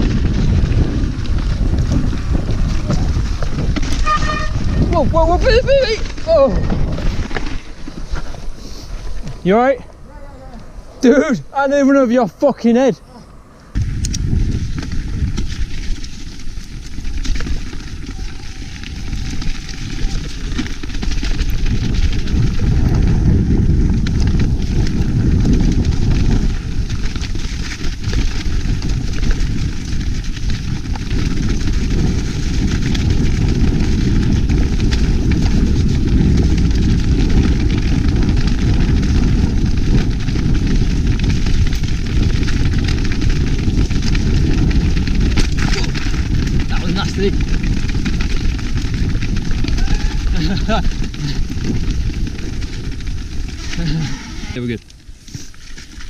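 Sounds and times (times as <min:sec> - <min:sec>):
bike tyres and frame rattling: 0:00.0 - 0:56.0
wind on microphone: 0:00.0 - 0:56.0.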